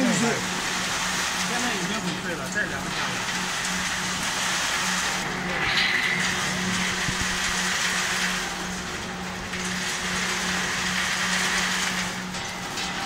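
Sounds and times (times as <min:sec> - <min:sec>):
machinery humming and hissing: 0:00.0 - 0:13.0.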